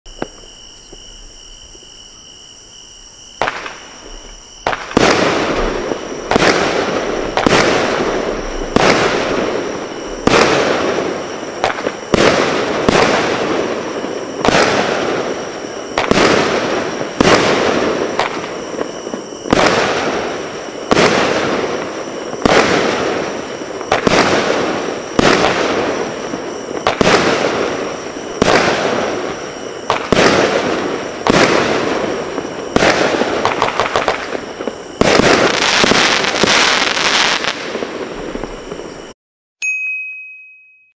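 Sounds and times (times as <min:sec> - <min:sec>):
firework bangs: 0:03.4 - 0:39.1
firework finale burst: 0:03.4 - 0:39.2.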